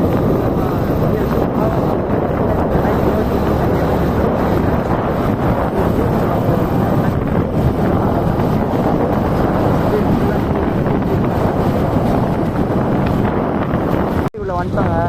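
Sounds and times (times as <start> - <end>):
road and engine noise: 0.0 - 15.0
wind buffeting microphone: 0.0 - 15.0.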